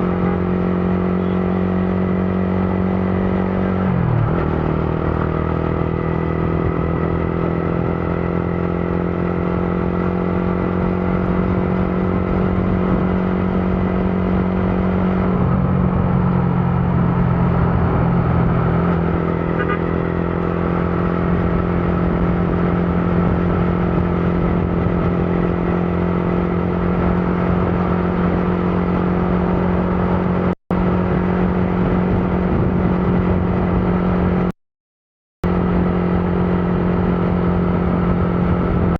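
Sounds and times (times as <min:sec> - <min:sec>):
motorcycle engine hum: 0:00.0 - 0:34.6, 0:35.4 - 0:38.9.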